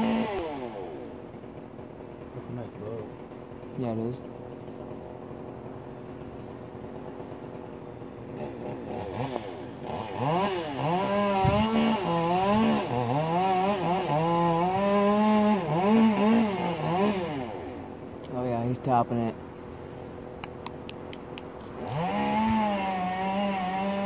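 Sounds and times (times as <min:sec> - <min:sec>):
chainsaw cutting wood: 0:00.0 - 0:18.2, 0:21.2 - 0:24.0.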